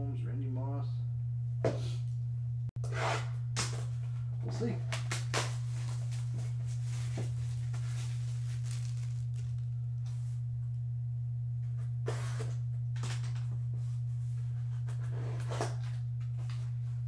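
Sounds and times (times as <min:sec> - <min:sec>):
loud low hum: 0:00.0 - 0:02.7, 0:03.3 - 0:17.0.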